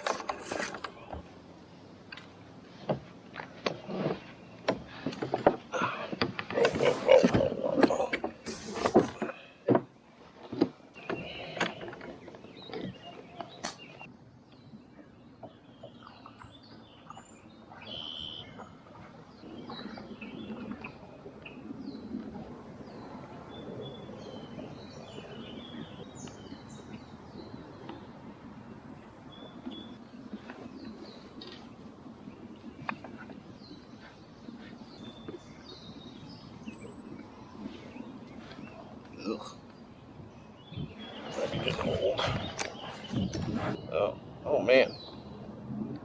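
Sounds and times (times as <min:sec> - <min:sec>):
birds chirping: 0:00.0 - 0:46.0
outdoor background noise: 0:00.0 - 0:46.0.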